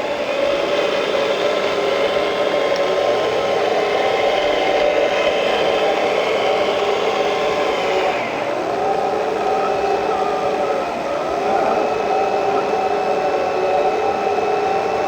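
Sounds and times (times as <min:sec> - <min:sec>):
electric motors and pumps whining: 0:00.0 - 0:15.0.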